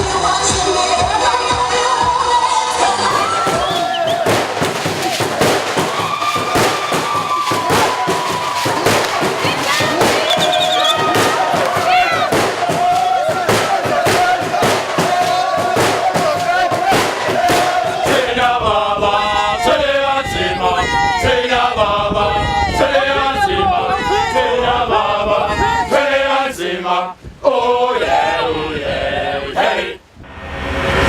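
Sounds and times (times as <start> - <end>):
group singing in harmony: 0.0 - 30.1.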